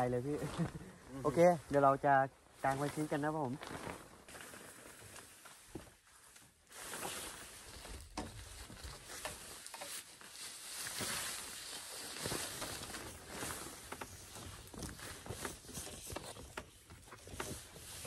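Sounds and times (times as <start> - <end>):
tarp rustling and crinkling: 0.0 - 18.0.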